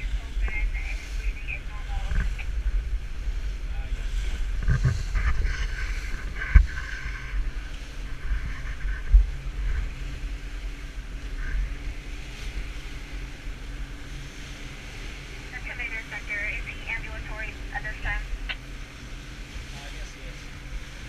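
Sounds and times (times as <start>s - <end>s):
faint engine drone: 0.0s - 21.0s
water rushing past hull: 0.0s - 21.0s
wind buffeting microphone: 0.0s - 21.0s.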